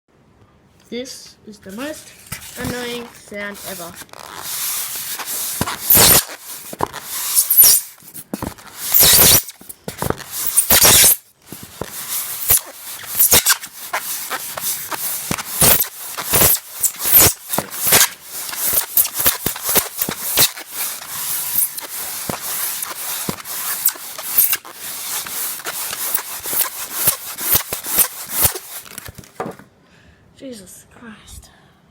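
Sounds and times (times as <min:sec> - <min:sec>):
loud scraping: 0:01.7 - 0:29.4.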